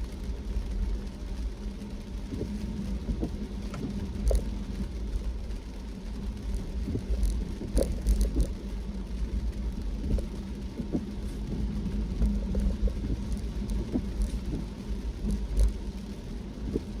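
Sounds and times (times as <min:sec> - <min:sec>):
engine and tyres rumbling: 0:00.0 - 0:17.0
steady hum: 0:00.0 - 0:17.0.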